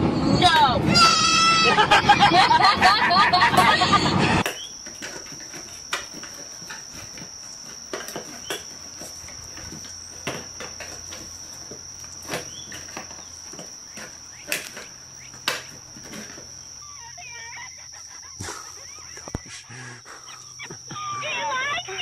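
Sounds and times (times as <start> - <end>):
insects chirring: 0.5 - 22.0.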